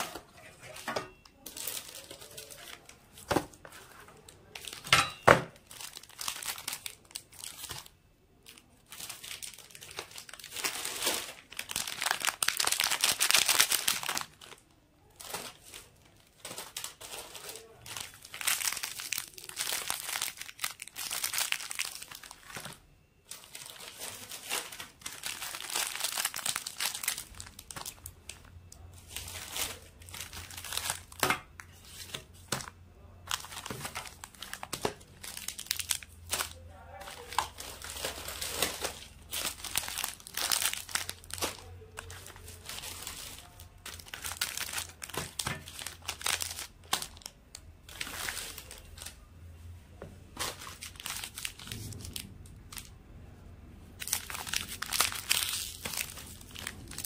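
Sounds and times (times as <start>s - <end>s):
plastic wrappers crinkling: 0.0s - 49.3s, 50.2s - 53.0s, 54.0s - 57.0s.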